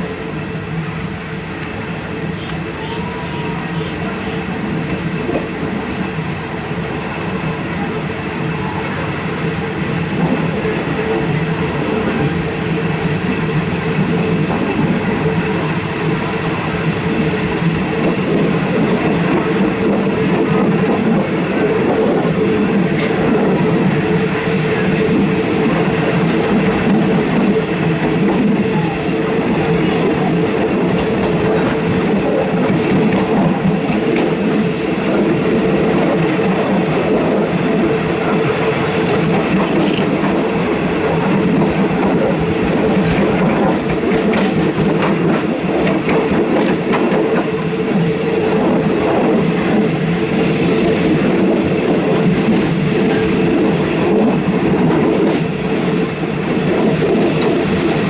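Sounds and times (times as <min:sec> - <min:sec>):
rail noise: 0:00.0 - 0:58.0
train engine hum: 0:00.0 - 0:58.0.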